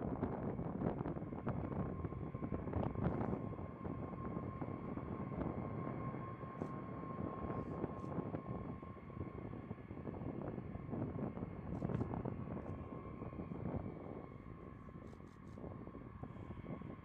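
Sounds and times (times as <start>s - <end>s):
jet engines rumbling with whine: 0.0s - 17.0s.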